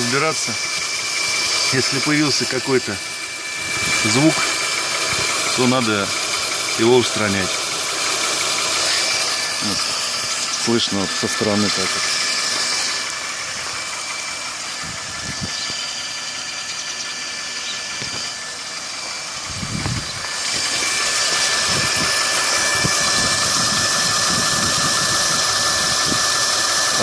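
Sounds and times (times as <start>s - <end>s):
car engine whining: 0.0s - 27.0s.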